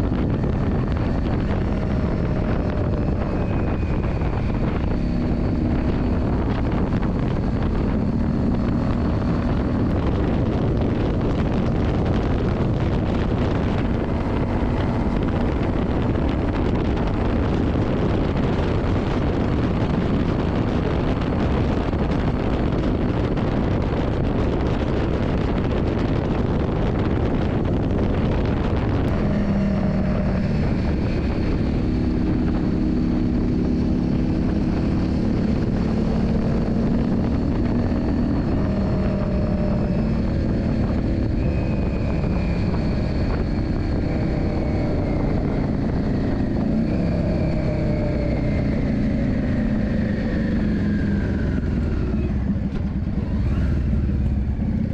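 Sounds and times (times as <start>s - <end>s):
loud rushing noise: 0.0s - 49.8s
motorcycle engine running: 0.0s - 54.9s.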